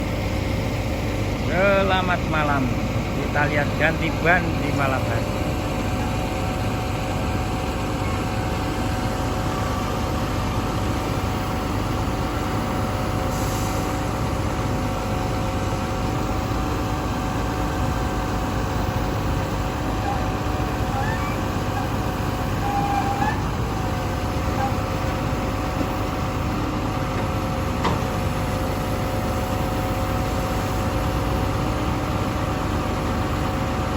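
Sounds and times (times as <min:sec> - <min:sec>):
large vehicle engine idling: 0:00.0 - 0:33.9.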